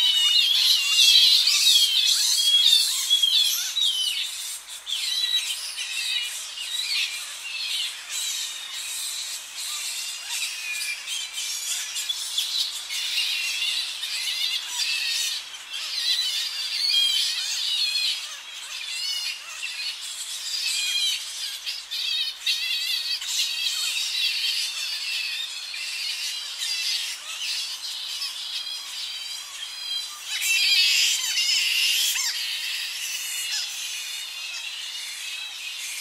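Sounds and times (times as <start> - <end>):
bats squealing and squawking: 0.0 - 36.0.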